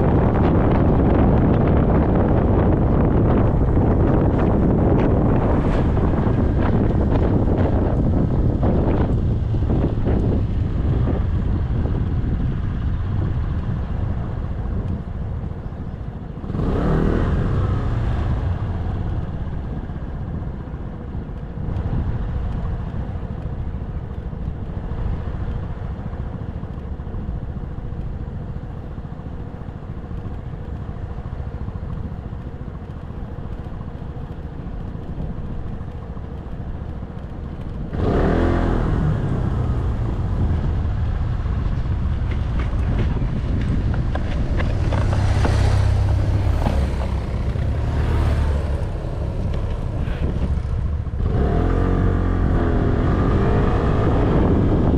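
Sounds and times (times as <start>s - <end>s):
motorcycle engine rumble: 0.0s - 54.9s
wind noise on microphone: 0.0s - 54.9s.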